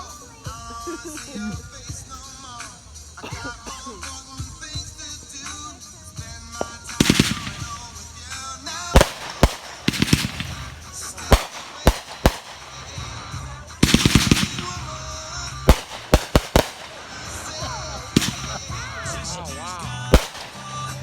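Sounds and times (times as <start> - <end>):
fireworks crackling: 0.0 - 21.0
music: 0.0 - 21.0
fireworks bangs: 1.7 - 21.0.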